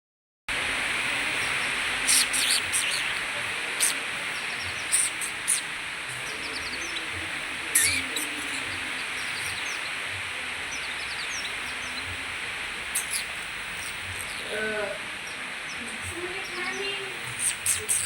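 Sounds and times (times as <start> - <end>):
rain hiss: 0.5 - 18.0
bird twittering high chirps: 1.2 - 14.6, 15.2 - 18.0.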